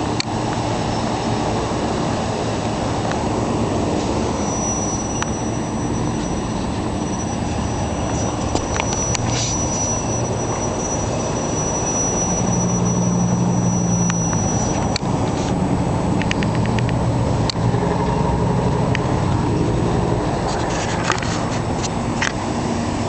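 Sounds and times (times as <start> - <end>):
crane engine running: 0.0 - 23.0.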